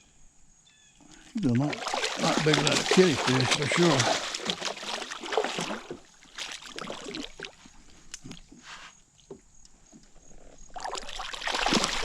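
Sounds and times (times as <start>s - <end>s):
water sloshing and splashing: 1.0s - 12.0s.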